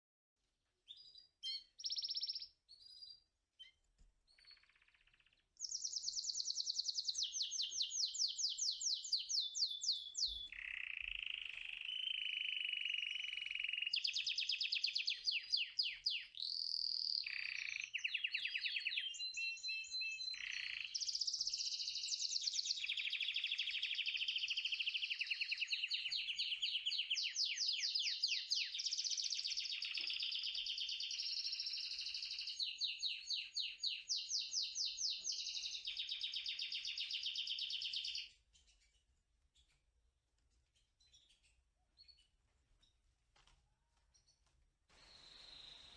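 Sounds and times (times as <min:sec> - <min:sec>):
songbird singing rapid trills: 0:00.9 - 0:38.8.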